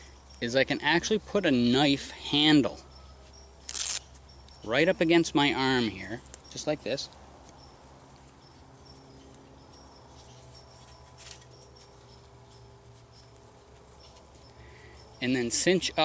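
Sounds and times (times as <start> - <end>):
faint insect chirps: 2.4 - 16.0.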